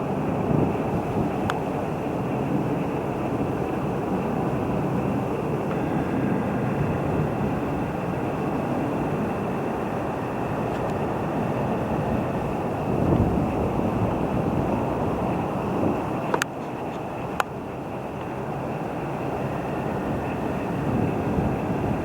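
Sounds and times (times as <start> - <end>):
faint constant whine: 0.0 - 22.0
train wheels rumbling on track: 0.0 - 22.0.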